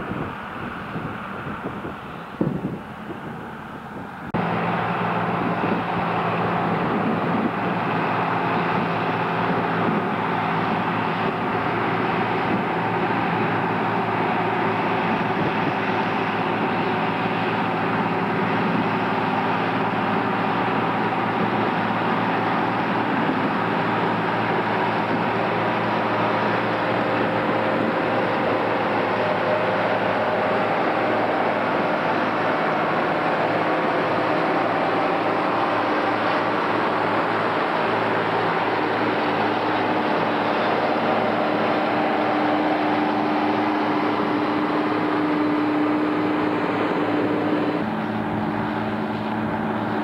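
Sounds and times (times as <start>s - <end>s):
tractor diesel engines pulling: 0.0s - 50.0s.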